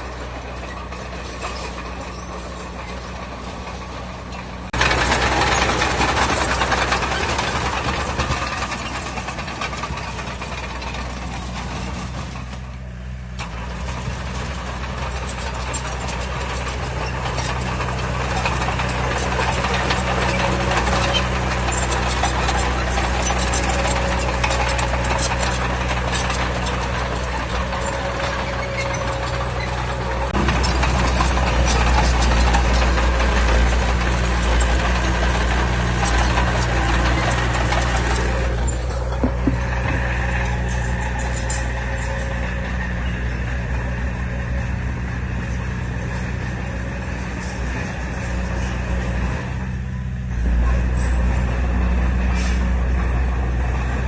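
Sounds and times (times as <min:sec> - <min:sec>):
diesel engine drone: 0:00.0 - 0:54.0
machinery rattling clatter: 0:00.0 - 0:54.0.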